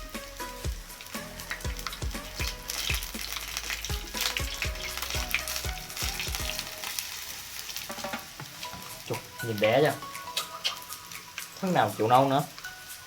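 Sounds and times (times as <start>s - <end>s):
background music with beat: 0.0s - 7.0s, 7.9s - 13.0s
oil sizzling and crackling: 0.0s - 13.0s.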